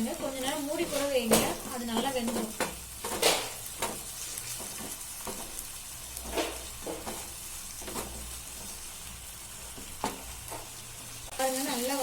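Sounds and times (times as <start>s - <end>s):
spatula scraping a pan: 0.0s - 10.8s
food sizzling in hot oil: 0.0s - 12.0s.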